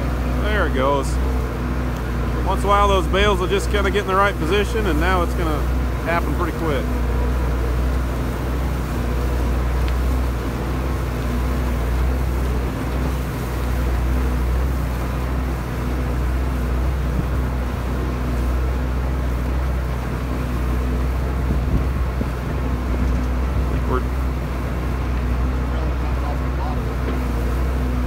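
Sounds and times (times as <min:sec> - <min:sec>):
steady hum: 0:00.0 - 0:28.0
tractor engine deep drone: 0:00.0 - 0:28.0.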